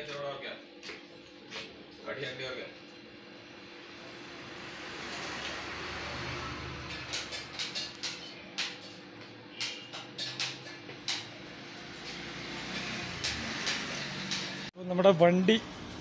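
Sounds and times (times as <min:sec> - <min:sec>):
steady background hum: 0:00.0 - 0:15.8.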